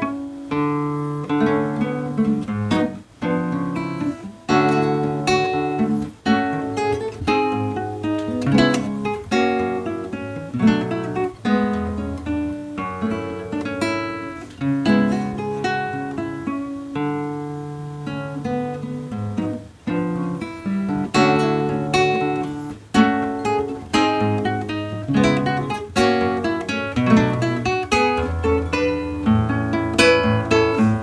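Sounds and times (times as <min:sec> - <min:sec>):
classical guitar fingerstyle: 0:00.0 - 0:31.0.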